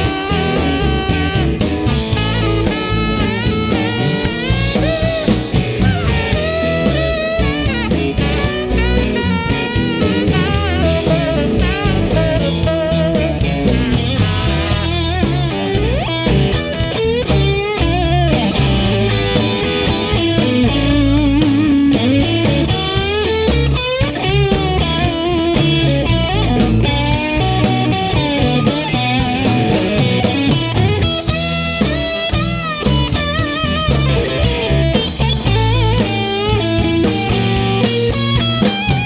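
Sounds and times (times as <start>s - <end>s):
blues song with electric guitar: 0.0s - 39.0s
drum kit beat: 0.0s - 39.0s.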